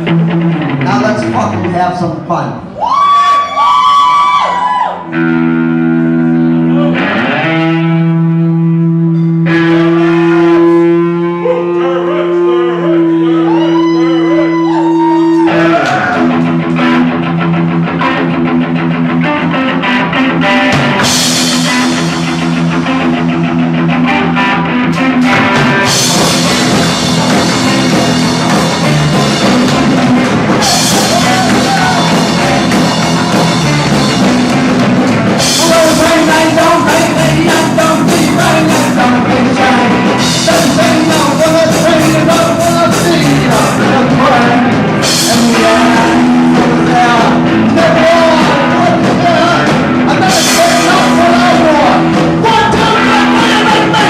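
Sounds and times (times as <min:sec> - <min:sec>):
distorted electric guitar chords: 0:00.0 - 0:02.7, 0:05.0 - 0:54.0
drums crashing: 0:00.0 - 0:04.5, 0:13.4 - 0:54.0
punk rock band playing: 0:00.0 - 0:54.0.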